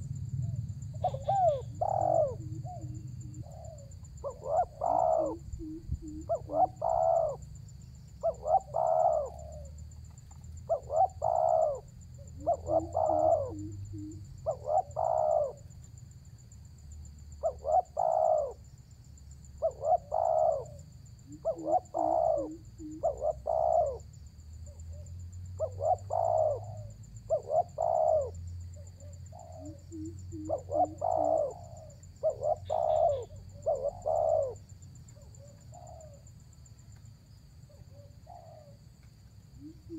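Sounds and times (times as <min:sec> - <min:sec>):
dove cooing: 0:00.0 - 0:15.9, 0:17.4 - 0:18.8, 0:19.5 - 0:36.3, 0:37.7 - 0:38.8, 0:39.5 - 0:39.9.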